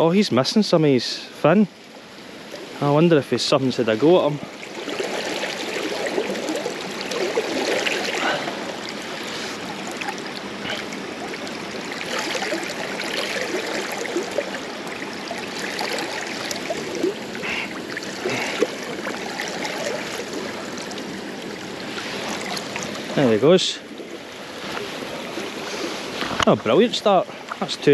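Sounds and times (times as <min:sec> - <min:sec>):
river water flowing: 0:00.0 - 0:27.9.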